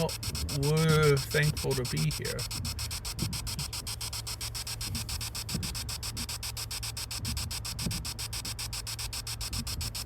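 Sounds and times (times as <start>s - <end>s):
pulsing radio static hiss: 0.0s - 10.0s.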